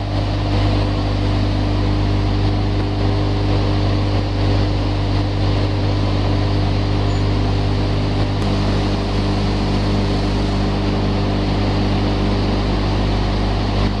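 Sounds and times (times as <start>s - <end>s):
machinery drone: 0.0s - 14.0s
steady machine tone: 0.0s - 14.0s.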